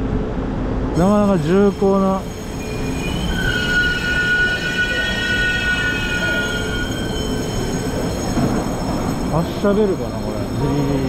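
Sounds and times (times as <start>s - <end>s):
train rumbling: 0.0s - 11.0s
high brake squeal: 1.0s - 11.0s.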